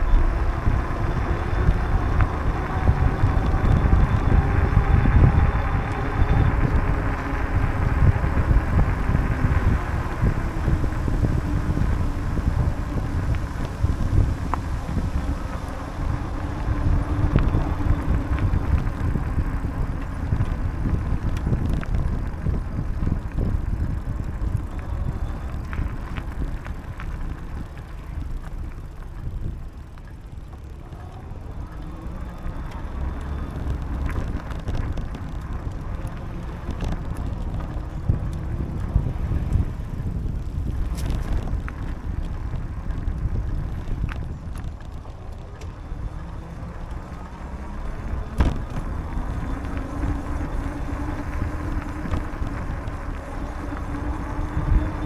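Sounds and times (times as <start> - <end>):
bicycle tyres rumbling on pavement: 0.0 - 55.0
wind buffeting microphone: 0.0 - 55.0.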